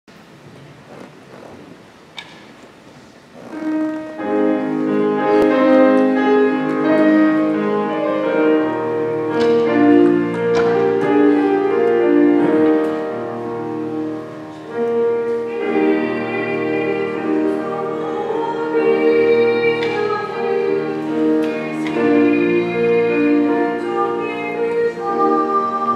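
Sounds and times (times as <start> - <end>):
piano playing hymn: 0.8 - 25.9.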